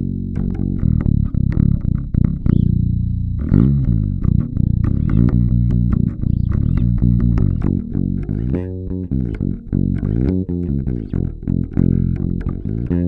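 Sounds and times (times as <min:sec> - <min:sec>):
electric bass played fingerstyle: 0:00.0 - 0:13.0.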